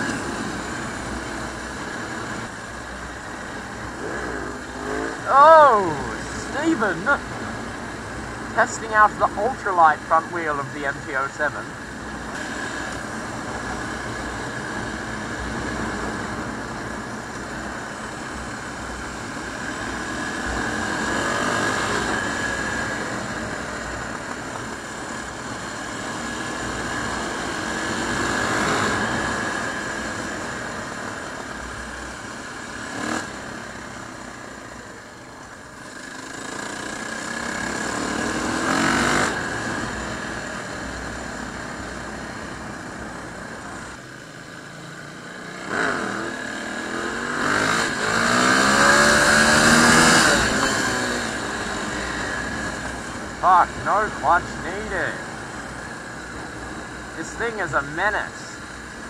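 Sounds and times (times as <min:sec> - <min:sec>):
motorcycle engine accelerating: 0:00.0 - 0:09.9, 0:11.5 - 0:59.0.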